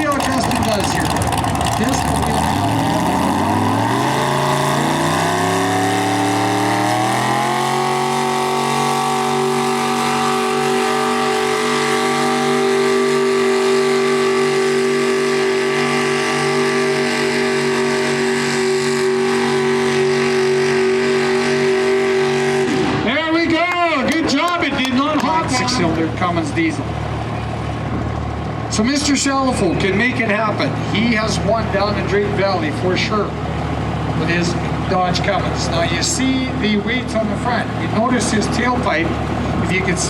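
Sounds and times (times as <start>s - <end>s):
diesel engine at full throttle: 0.0s - 40.0s.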